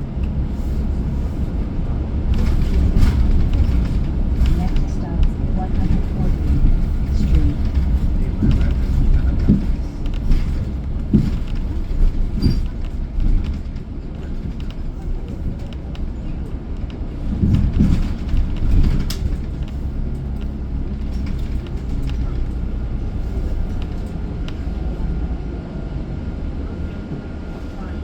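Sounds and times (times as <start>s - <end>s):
bus engine and road rumble: 0.0s - 28.0s
knocks and rattles from bumps: 0.6s - 24.9s.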